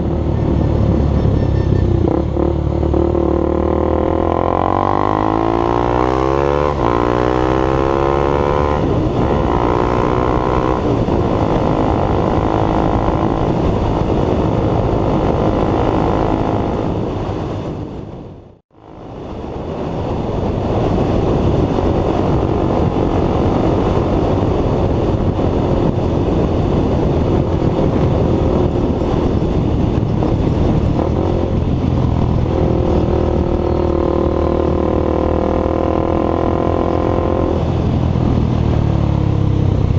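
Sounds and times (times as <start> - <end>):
motorcycle engine accelerating: 0.0 - 39.9
wind rushing: 0.0 - 39.9.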